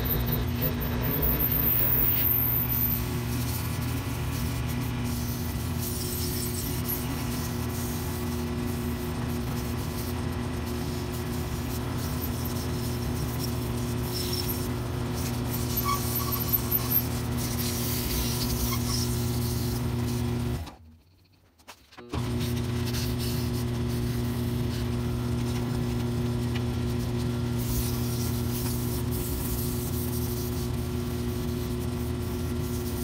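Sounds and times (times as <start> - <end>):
sandpaper on spinning wood: 0.0 - 20.6, 22.3 - 33.0.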